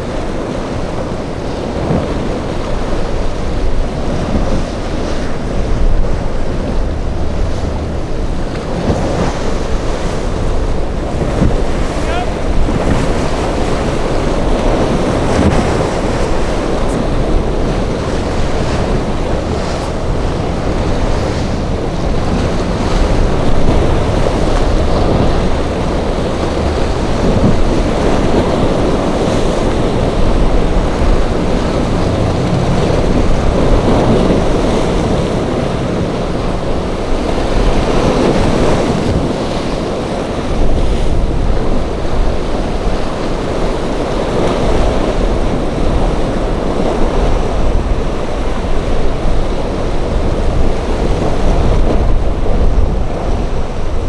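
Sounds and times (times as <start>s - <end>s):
waves breaking: 0.0s - 54.0s
wind buffeting microphone: 0.0s - 54.0s.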